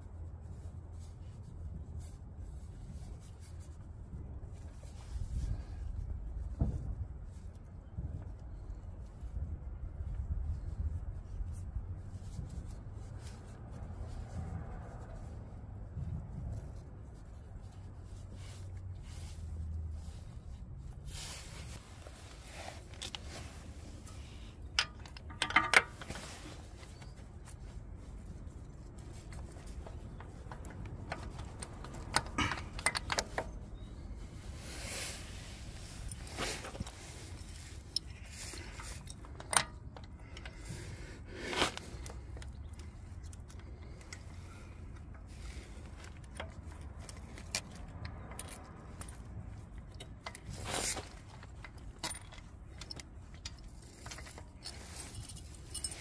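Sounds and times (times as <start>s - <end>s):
light metal clicks and scrapes: 0.4s - 56.0s.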